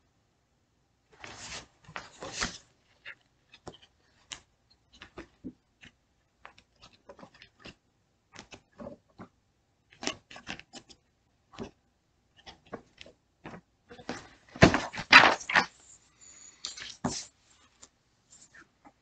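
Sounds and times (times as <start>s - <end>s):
book pages rustling: 1.2s - 11.8s, 12.4s - 15.9s, 16.7s - 19.0s.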